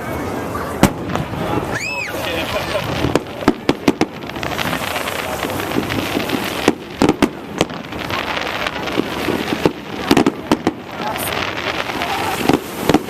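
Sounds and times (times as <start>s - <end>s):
fireworks crackling: 0.0s - 13.0s
sharp firework bangs: 0.8s - 13.0s.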